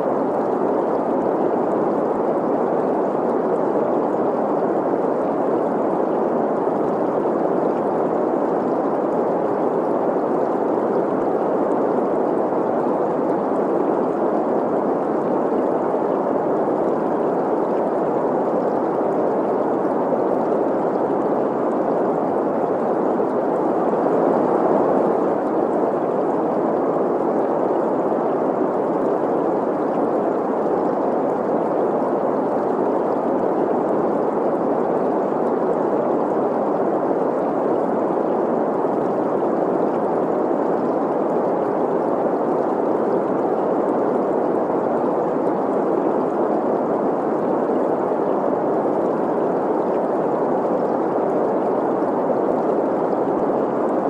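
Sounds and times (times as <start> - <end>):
flowing stream: 0.0 - 54.0
steady green noise hiss: 0.0 - 54.0.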